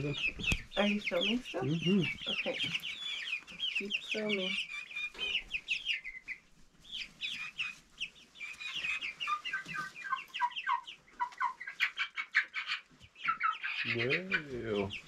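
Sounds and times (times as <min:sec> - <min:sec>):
chicks cheeping: 0:00.0 - 0:15.0.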